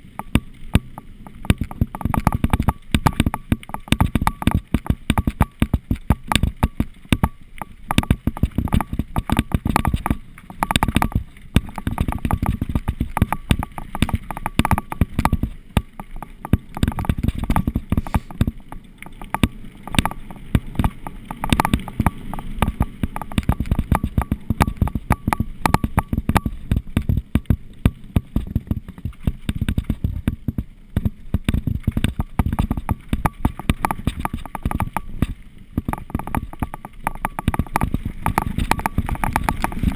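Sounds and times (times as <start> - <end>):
bike knocking and rattling: 0.0 - 39.9
tyres rumbling on trail: 0.0 - 39.9.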